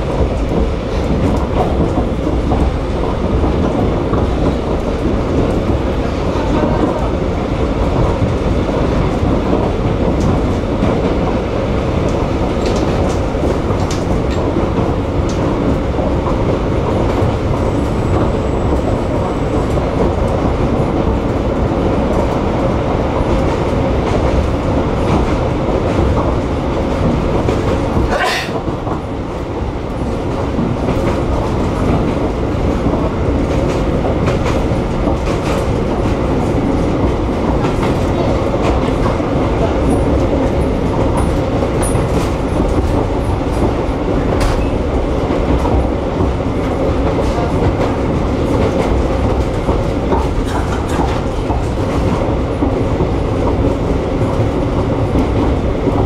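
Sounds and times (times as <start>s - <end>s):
train wheels rattling on rails: 0.0s - 56.0s.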